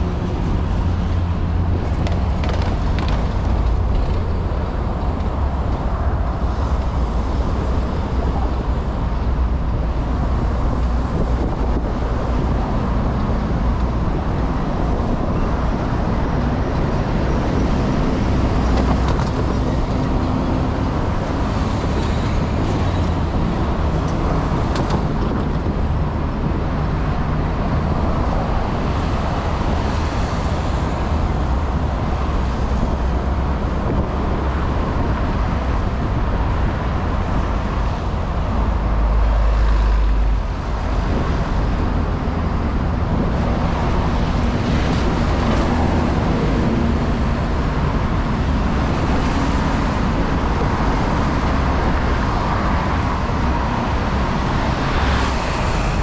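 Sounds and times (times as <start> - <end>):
city road traffic: 0.0 - 56.0.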